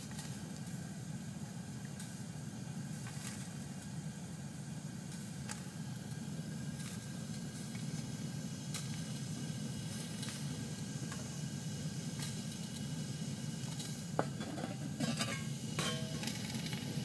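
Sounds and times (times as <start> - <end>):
water heater burner rumble: 0.0 - 17.0.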